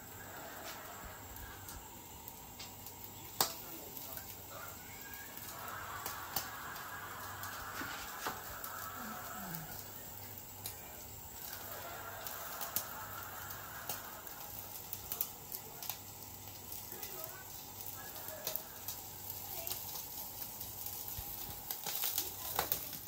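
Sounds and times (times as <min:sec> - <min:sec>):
fish grilling crackling: 0:00.0 - 0:23.0
gas burner hiss: 0:00.0 - 0:23.0.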